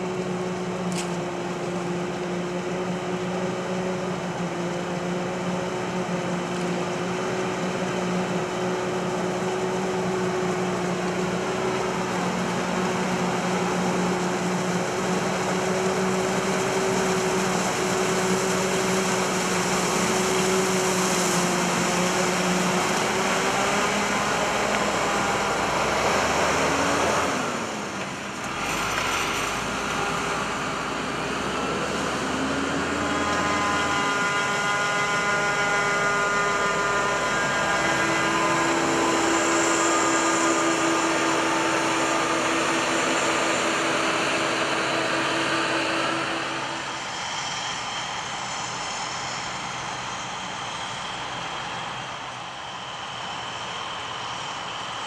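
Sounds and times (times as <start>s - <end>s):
truck trailer passing: 0.0s - 48.5s
forage harvester machinery drone: 0.0s - 55.0s.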